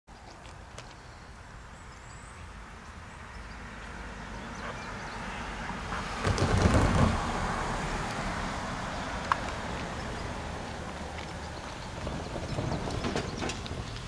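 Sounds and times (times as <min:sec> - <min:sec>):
distant diesel trains rumbling: 0:00.6 - 0:14.0.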